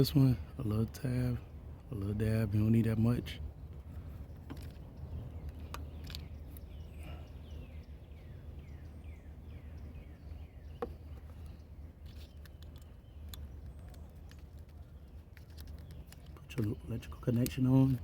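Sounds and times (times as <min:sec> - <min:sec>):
bird singing: 0:00.0 - 0:18.0
low outdoor rumble: 0:00.0 - 0:18.0.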